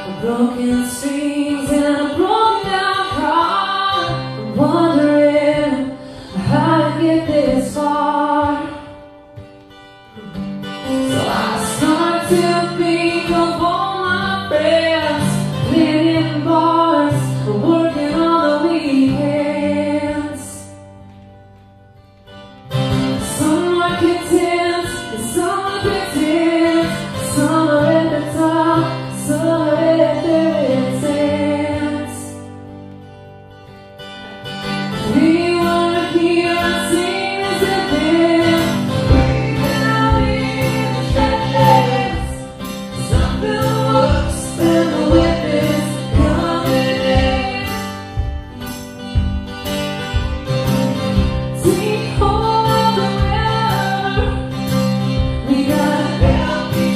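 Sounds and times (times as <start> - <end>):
woman singing: 0.0 - 9.2, 10.8 - 21.0, 23.1 - 32.8, 34.8 - 48.5, 51.2 - 56.9
acoustic guitar: 0.0 - 56.9.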